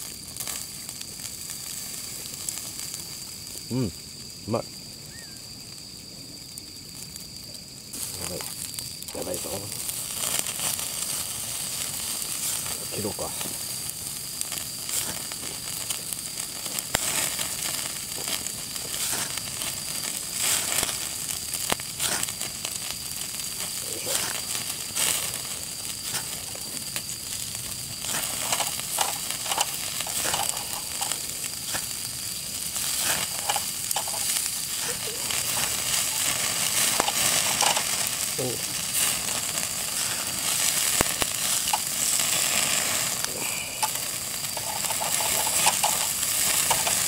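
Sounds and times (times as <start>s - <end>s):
fat crackling in coals: 0.0s - 47.0s
steak sizzling on grill: 0.0s - 47.0s.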